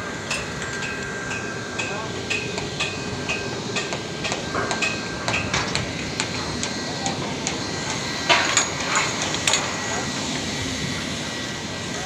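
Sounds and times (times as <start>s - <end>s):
hydraulic unit humming and whining: 0.0s - 12.0s.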